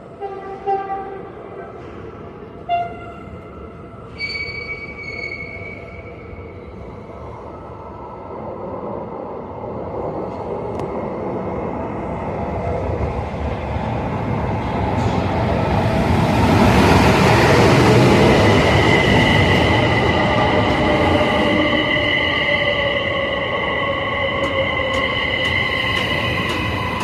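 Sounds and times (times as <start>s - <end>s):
train rolling on rails: 0.0s - 27.0s.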